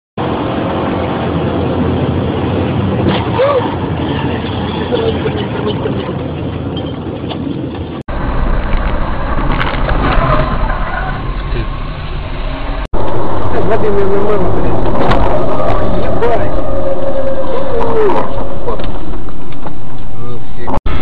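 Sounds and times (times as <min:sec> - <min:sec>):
car interior road and engine noise: 0:00.2 - 0:21.0.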